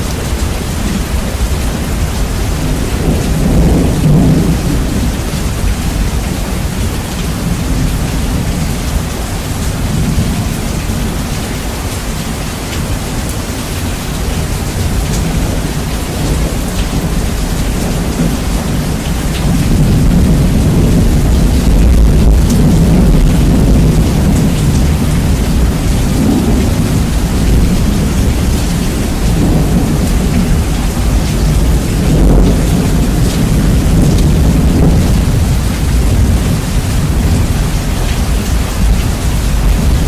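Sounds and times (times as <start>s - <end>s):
heavy rain: 0.0s - 40.0s
rolling thunder: 0.0s - 40.0s.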